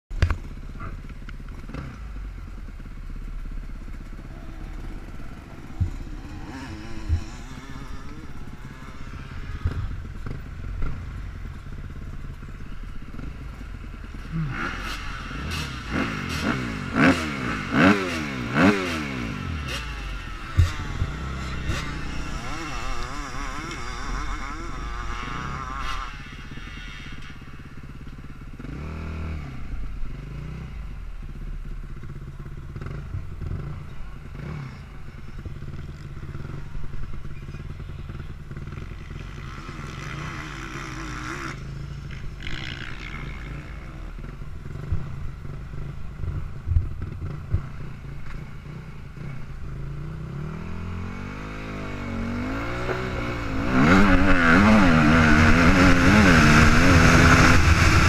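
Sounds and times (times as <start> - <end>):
dirt bike engines revving: 0.1 - 58.0.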